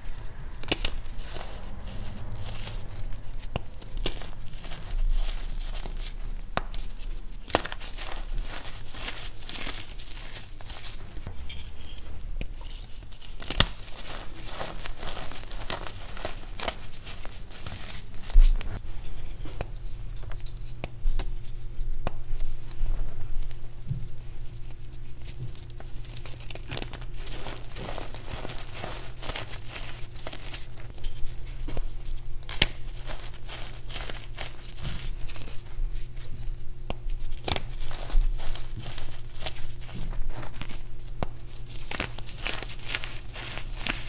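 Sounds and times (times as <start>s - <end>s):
chalk crunching in hands: 0.0s - 11.6s, 12.4s - 19.4s, 24.4s - 44.0s
steady low hum: 0.0s - 44.0s.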